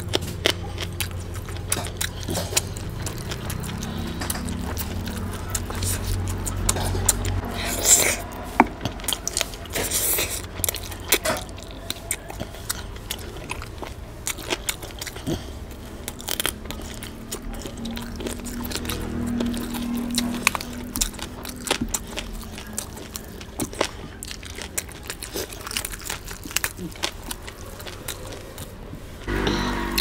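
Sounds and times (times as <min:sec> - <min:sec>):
loud crunches: 0:00.0 - 0:30.0
person chewing food: 0:00.0 - 0:30.0.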